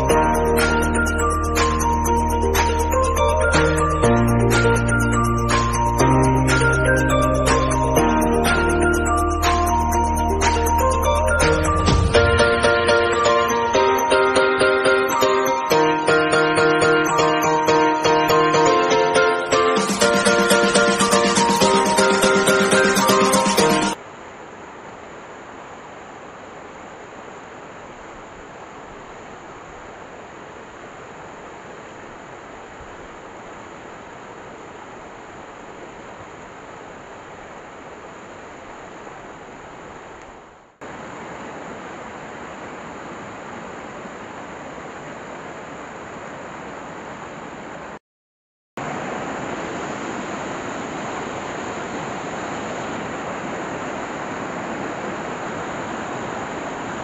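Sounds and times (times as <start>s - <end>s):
stream rushing over boulders: 0.0s - 48.0s, 48.8s - 57.0s.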